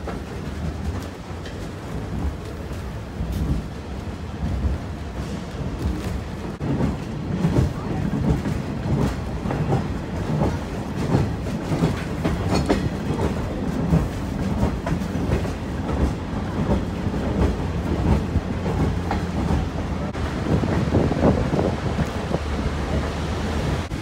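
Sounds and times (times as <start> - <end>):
train rumbling: 0.0 - 24.0
wheels clicking over rails: 0.0 - 24.0.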